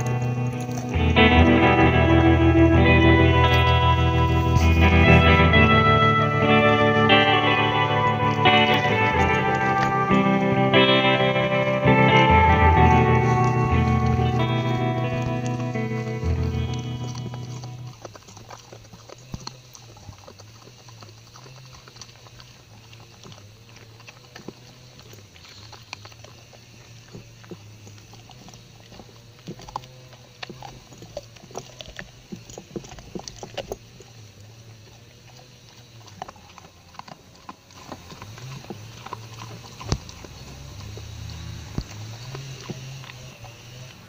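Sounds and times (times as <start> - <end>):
dog gnawing corn cob: 0.0 - 44.0
steady low hum: 0.0 - 44.0.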